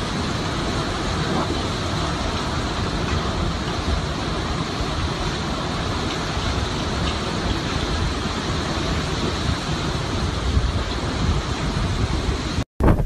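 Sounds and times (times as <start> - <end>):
driving rain: 0.0 - 13.0
hurricane wind: 0.0 - 13.0.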